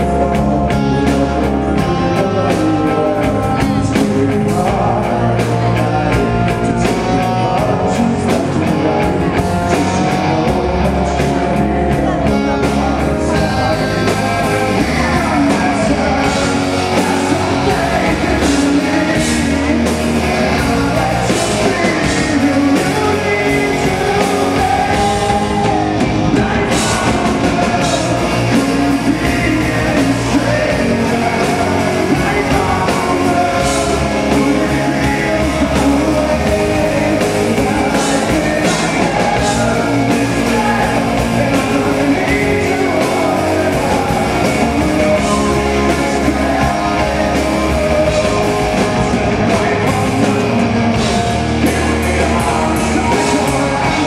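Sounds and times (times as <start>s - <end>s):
live rock band: 0.0s - 54.0s
man singing: 0.0s - 54.0s.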